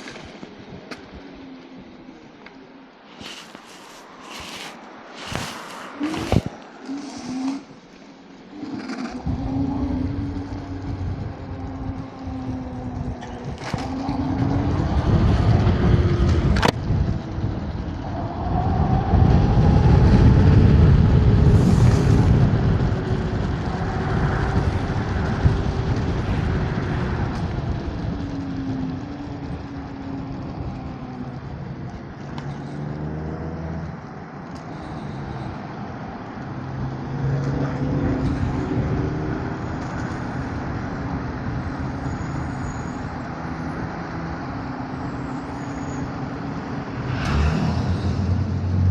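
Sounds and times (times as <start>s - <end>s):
cars and trucks passing: 0.0s - 48.9s.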